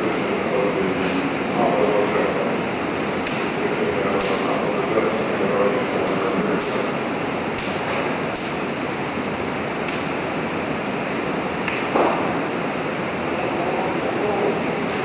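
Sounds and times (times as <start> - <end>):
fire crackling: 0.0 - 15.0
fire rushing: 0.0 - 15.0.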